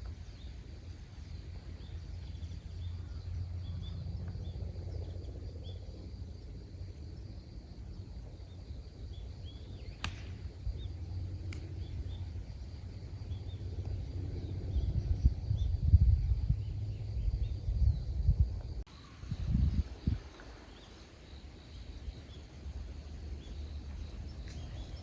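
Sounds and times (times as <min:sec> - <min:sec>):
small birds chirping: 0:00.0 - 0:06.4, 0:08.2 - 0:25.0
wind buffeting microphone: 0:00.0 - 0:25.0.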